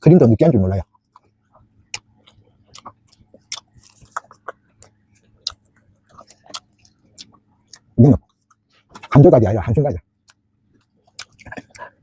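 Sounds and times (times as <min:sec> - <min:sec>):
chewing crisp pastry: 0:00.4 - 0:12.0.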